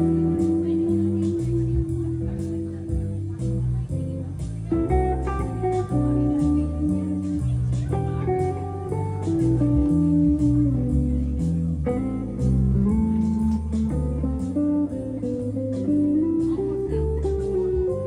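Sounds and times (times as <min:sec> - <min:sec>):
bass line: 0:00.0 - 0:18.0
picked guitar melody: 0:00.0 - 0:18.0.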